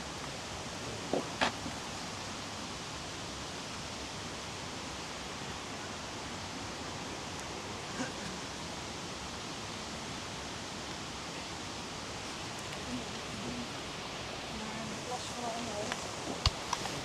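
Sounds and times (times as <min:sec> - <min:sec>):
rushing flowing water: 0:00.0 - 0:17.0.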